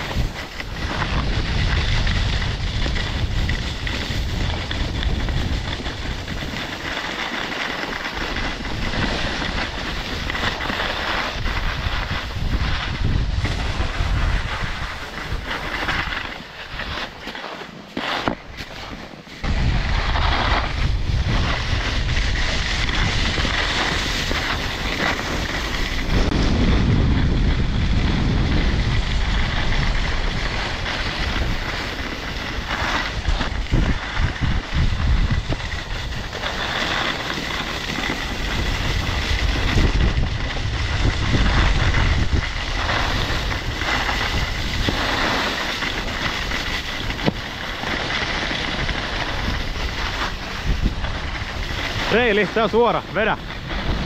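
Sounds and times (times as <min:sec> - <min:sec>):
wind rushing over microphone: 0:00.0 - 0:17.2, 0:18.1 - 0:54.0
short scrapes and bumps: 0:00.0 - 0:27.4, 0:28.6 - 0:54.0
skis scraping on packed snow: 0:00.0 - 0:54.0.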